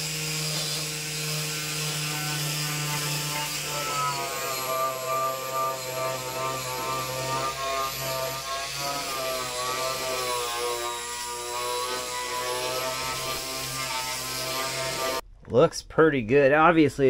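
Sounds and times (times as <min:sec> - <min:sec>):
angle grinder grinding metal: 0:00.0 - 0:15.2.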